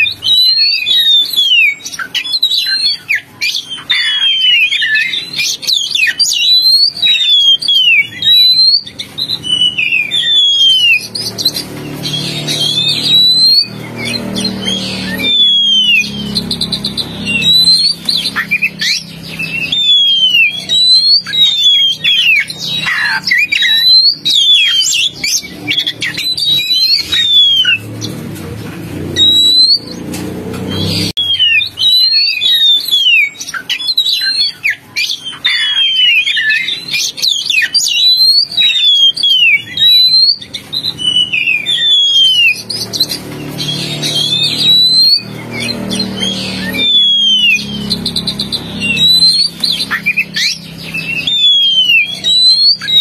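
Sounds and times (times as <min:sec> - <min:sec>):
bird whistling song: 0:00.0 - 0:28.2, 0:29.0 - 0:53.0
harsh bird chatter: 0:00.0 - 0:53.0.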